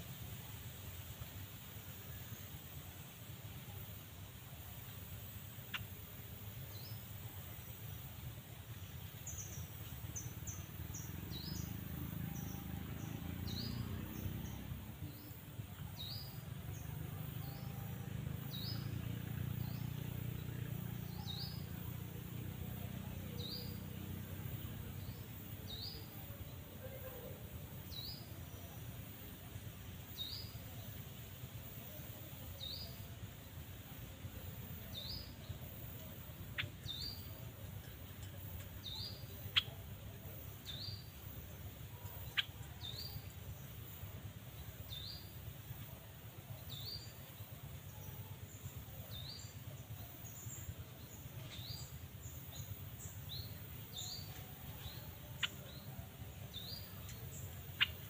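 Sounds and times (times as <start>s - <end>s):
low steady rumble: 0.0s - 58.0s
small bird chirping: 4.6s - 29.0s, 30.0s - 31.0s, 31.7s - 58.0s.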